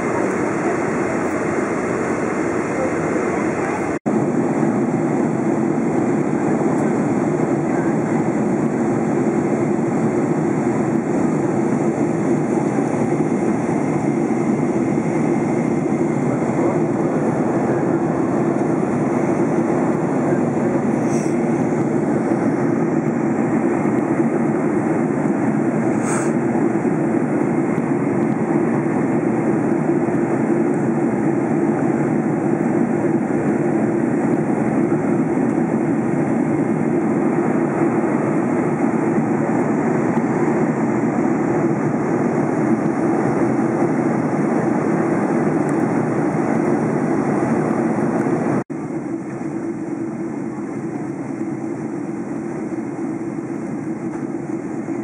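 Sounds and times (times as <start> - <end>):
airplane cabin noise: 0.0 - 55.0.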